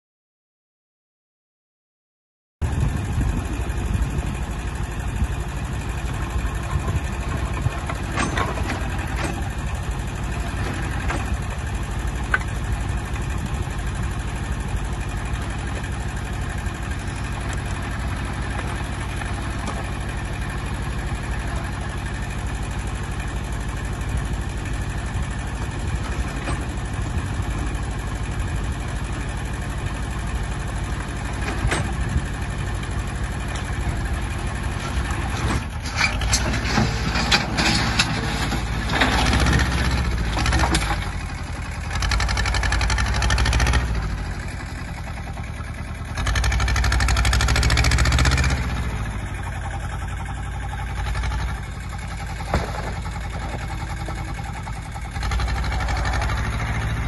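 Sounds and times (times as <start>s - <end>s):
tractor engine running: 2.6s - 57.0s.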